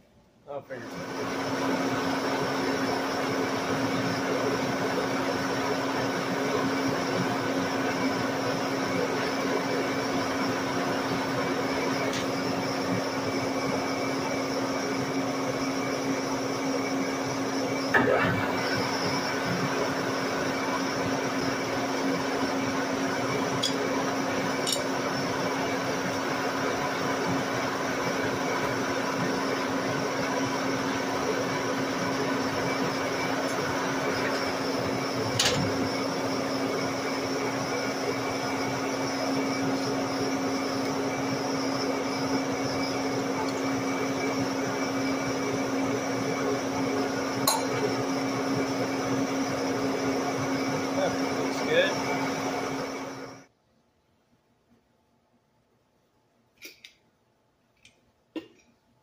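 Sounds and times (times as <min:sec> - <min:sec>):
metal lathe cutting: 0:01.0 - 0:53.4.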